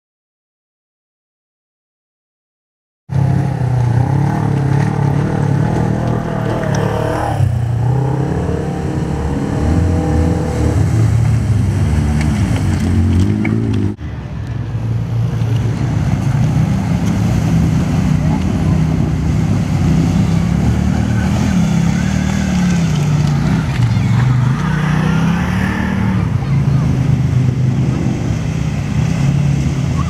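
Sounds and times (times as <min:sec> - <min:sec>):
vehicle engines revving: 0:03.1 - 0:30.0
water splashing around wheels: 0:03.1 - 0:30.0.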